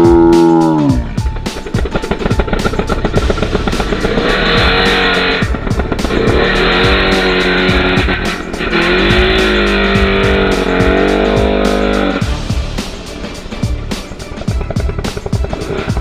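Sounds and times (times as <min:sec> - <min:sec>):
music playing: 0:00.0 - 0:16.0
small engine revving: 0:01.0 - 0:16.0.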